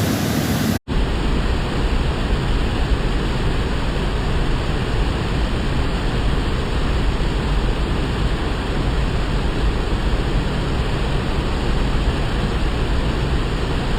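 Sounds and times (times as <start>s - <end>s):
waterfall roaring: 0.0s - 13.9s.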